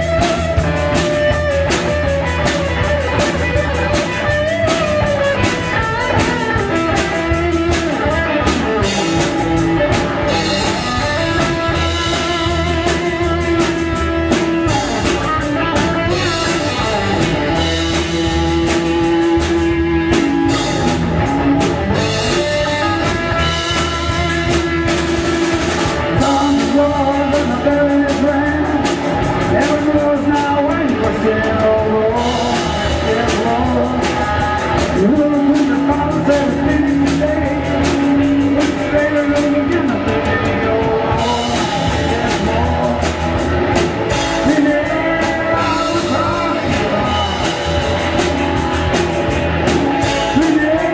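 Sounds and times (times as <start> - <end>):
person singing: 0.0 - 50.9
rock band playing: 0.0 - 50.9.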